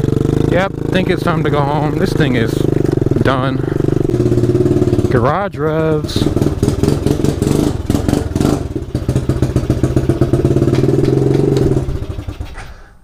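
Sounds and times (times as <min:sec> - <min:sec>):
motorbike engine revving: 0:00.0 - 0:12.7.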